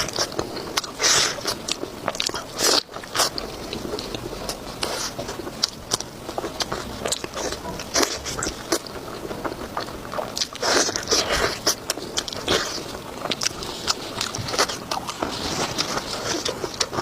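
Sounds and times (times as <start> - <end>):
biting and chewing: 0.0 - 17.0.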